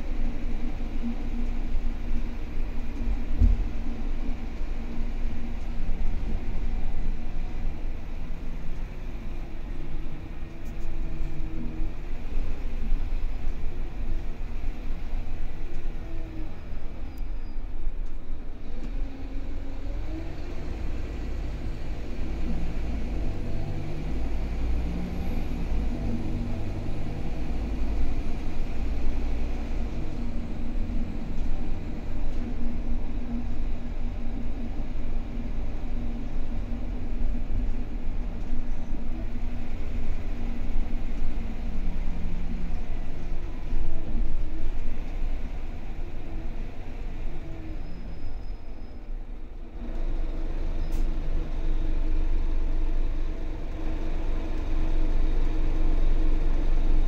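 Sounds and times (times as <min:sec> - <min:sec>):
bus diesel engine rumble: 0:00.0 - 0:57.0.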